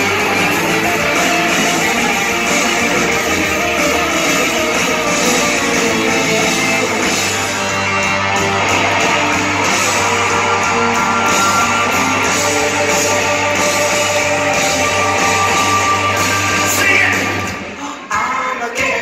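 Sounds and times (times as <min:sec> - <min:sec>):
electric guitar: 0:00.0 - 0:17.8.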